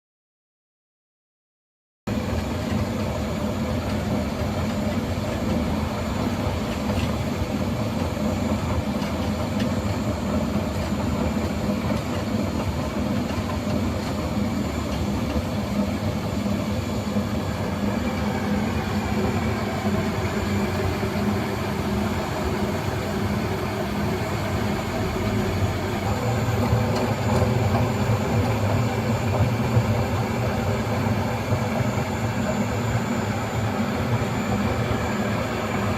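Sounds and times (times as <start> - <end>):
floor grinder droning: 3.5 - 35.9.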